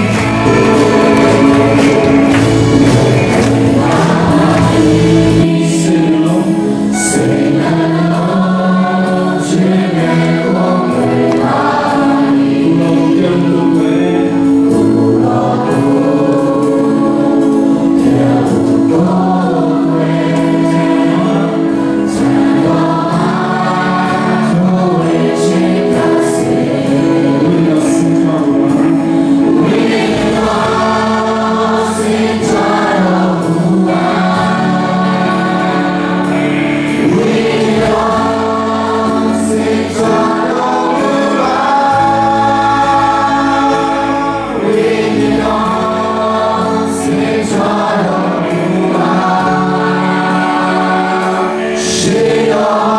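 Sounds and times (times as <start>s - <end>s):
group singing worship song: 0.0s - 52.9s
guitar-led band: 0.0s - 52.9s.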